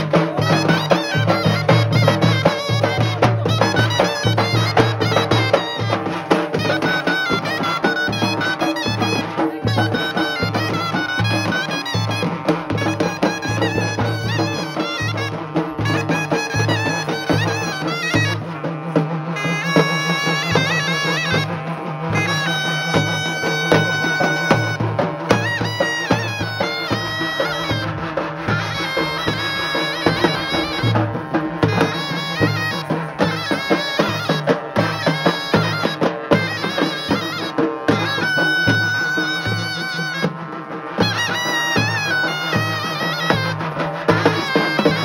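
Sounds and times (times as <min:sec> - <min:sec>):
barrel drums beating: 0:00.0 - 0:45.0
reedy wind instrument melody: 0:00.0 - 0:45.0.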